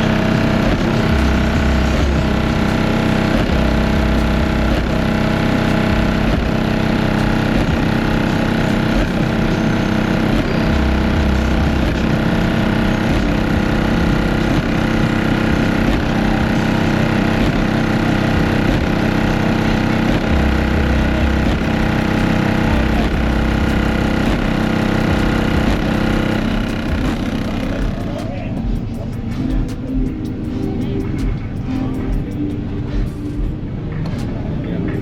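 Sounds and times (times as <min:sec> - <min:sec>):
bass-heavy music from car speakers: 0:00.0 - 0:35.0.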